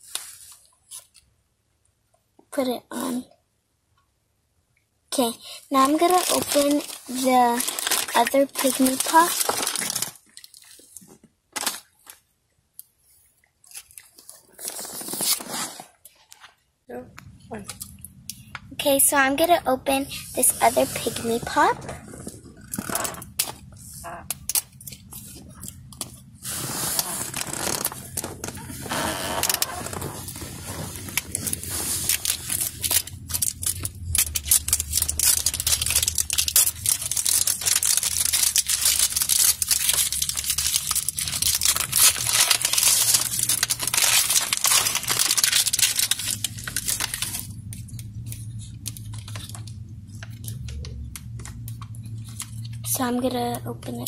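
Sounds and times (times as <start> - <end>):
plastic wrapping crinkling: 0.0 - 1.3, 5.2 - 12.3, 13.6 - 16.6, 17.5 - 53.0.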